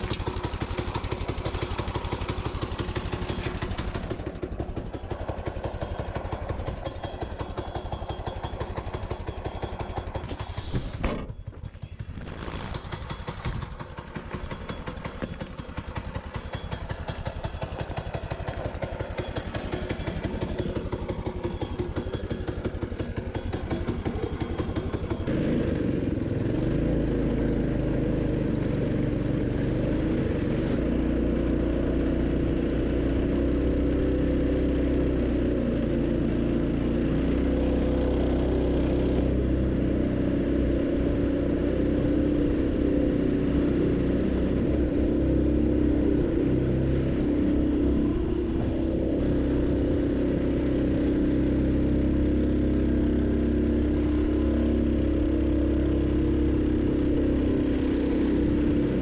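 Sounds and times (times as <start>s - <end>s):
mini bike engine running: 0.0s - 59.0s.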